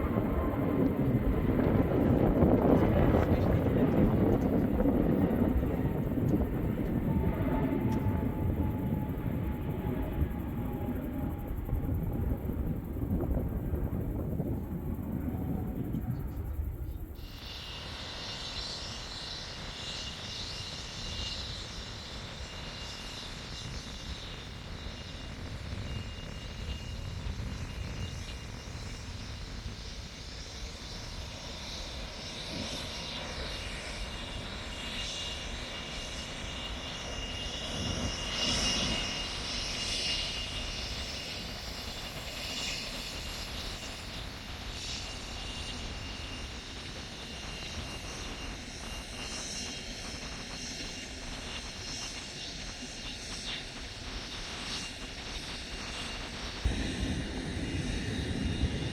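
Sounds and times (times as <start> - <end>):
jet airliner passing overhead: 0.0 - 58.9.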